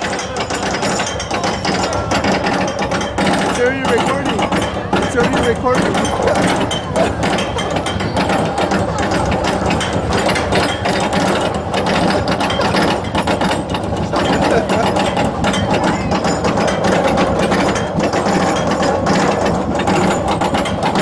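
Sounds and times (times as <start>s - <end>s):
roller coaster chain lift clacking: 0.0s - 21.0s.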